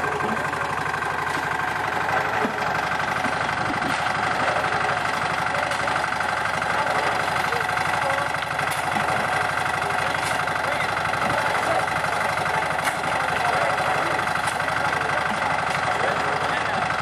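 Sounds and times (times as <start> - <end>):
concrete mixer engine running: 0.0 - 17.0.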